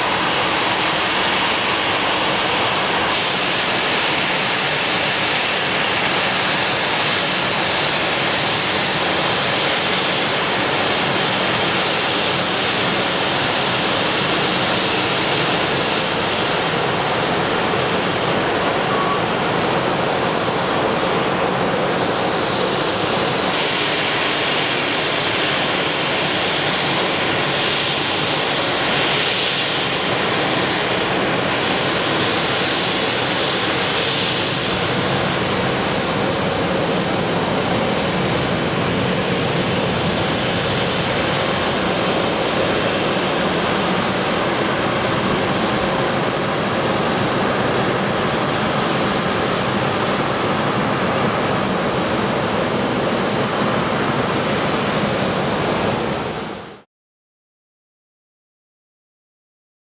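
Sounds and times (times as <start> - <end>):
jet engines idling: 0.0 - 56.6.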